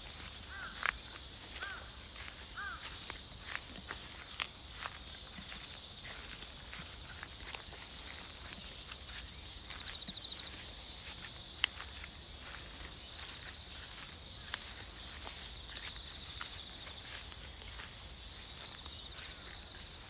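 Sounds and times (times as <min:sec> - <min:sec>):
footsteps crunching on path: 0:00.0 - 0:20.0
insects chirping and trilling: 0:00.0 - 0:20.0.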